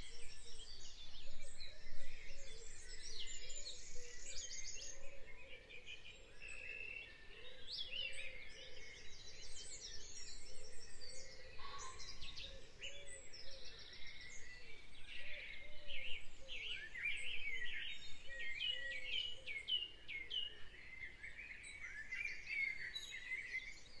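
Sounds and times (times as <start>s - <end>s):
birds chirping and singing: 0.0s - 24.0s.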